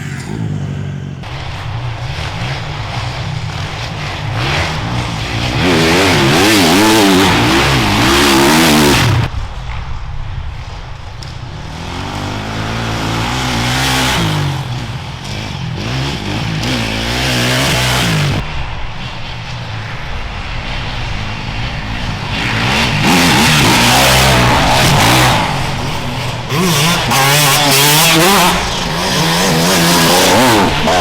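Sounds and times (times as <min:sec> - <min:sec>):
motorcycles revving past: 0:00.0 - 0:09.3, 0:11.2 - 0:31.0.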